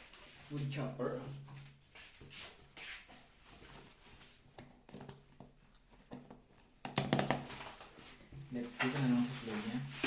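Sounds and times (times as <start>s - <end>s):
rustling and handling of a box: 0.0s - 6.5s, 7.4s - 10.0s.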